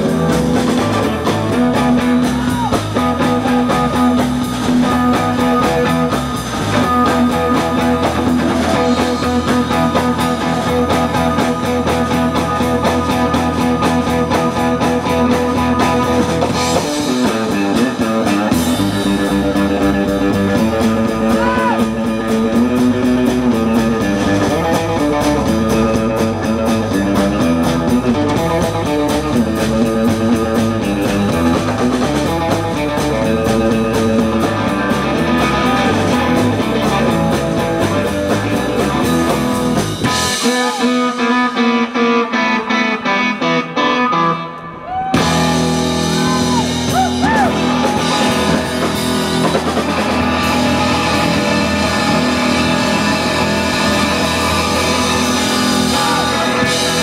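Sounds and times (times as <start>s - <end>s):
electric guitar: 0.0s - 57.0s
live rock band playing: 0.0s - 57.0s.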